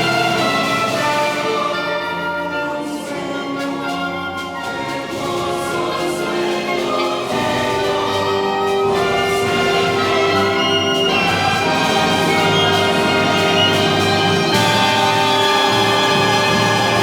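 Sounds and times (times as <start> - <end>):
orchestra with brass chords: 0.0 - 17.0.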